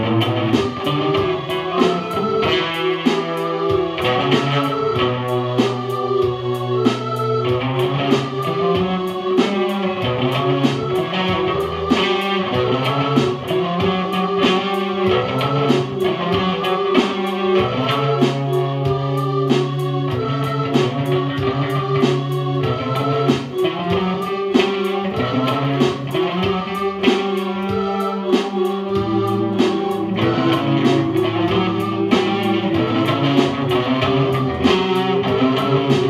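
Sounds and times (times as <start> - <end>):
electric guitar through amp: 0.0 - 36.0
electronic keyboard held notes: 0.0 - 36.0.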